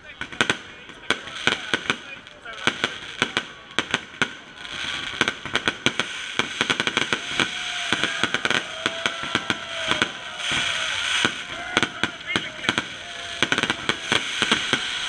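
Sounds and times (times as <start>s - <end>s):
fireworks bangs: 0.0s - 15.0s
fireworks crackling hiss: 0.0s - 15.0s.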